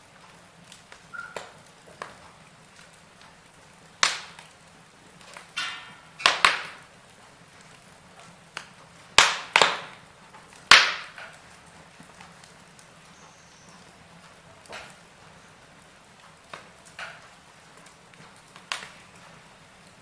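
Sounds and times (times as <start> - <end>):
burning logs popping: 0.0 - 20.0
wood fire crackling: 0.0 - 20.0.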